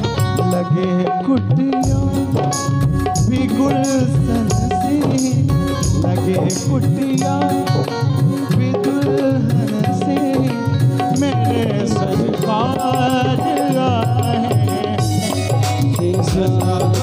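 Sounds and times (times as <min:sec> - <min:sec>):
electronic keyboard melody: 0:00.0 - 0:17.0
tabla rhythm: 0:00.0 - 0:17.0.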